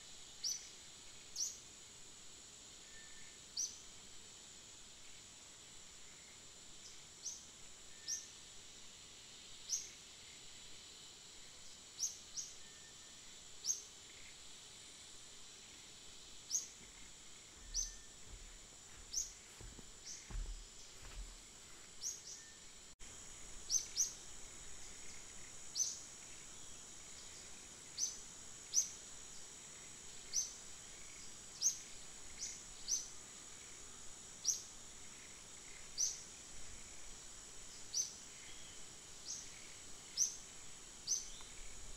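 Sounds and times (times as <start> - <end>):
high-pitched insect drone: 4.9 - 41.9.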